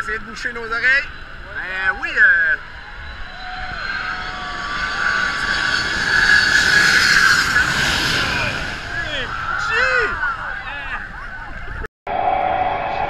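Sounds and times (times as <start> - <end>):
jet engines passing overhead: 0.0 - 13.0.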